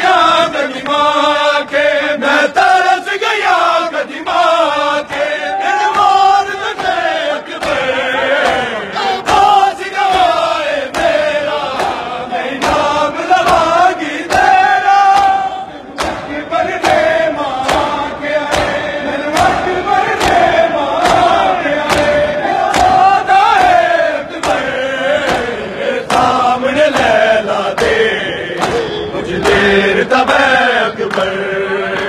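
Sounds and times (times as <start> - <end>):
crowd of men chanting: 0.0 - 32.0
rhythmic chest-beating slaps: 0.0 - 32.0.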